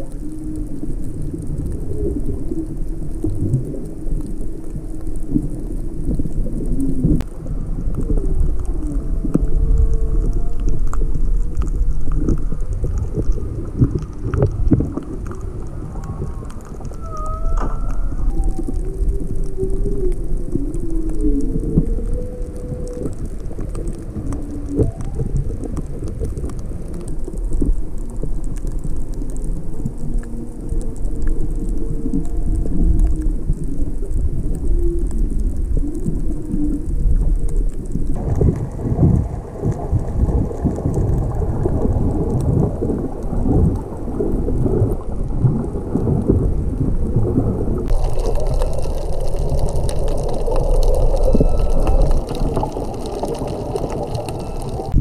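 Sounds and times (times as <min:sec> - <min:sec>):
whale song moans: 0:00.0 - 0:37.8, 0:39.0 - 0:55.0
crackling water noise: 0:00.0 - 0:55.0
low underwater rumble: 0:00.0 - 0:55.0.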